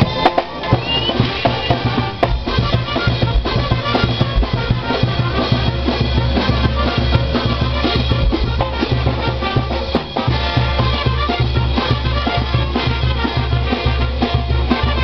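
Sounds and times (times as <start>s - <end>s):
bass drums and snare hits: 0.0s - 15.0s
brass band playing: 0.0s - 15.0s.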